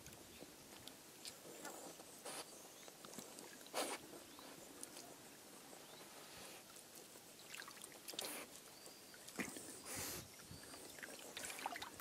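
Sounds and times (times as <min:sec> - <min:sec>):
dog snuffling in water: 0:00.8 - 0:05.1, 0:06.0 - 0:12.0.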